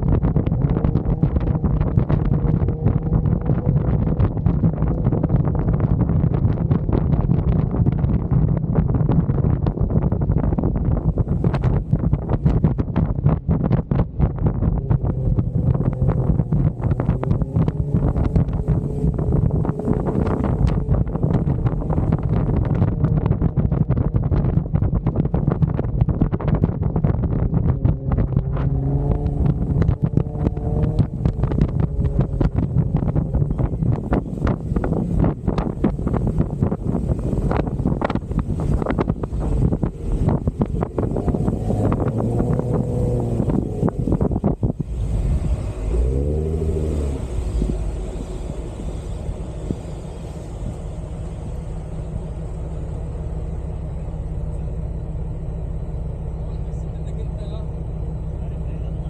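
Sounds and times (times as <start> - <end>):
car engine running: 0.0 - 59.0
wind buffeting microphone: 0.0 - 59.0.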